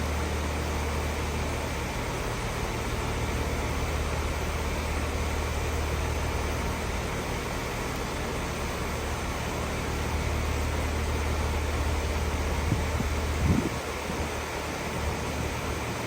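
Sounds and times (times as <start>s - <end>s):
compressor hum: 0.0s - 16.0s
fan rushing: 0.0s - 16.0s.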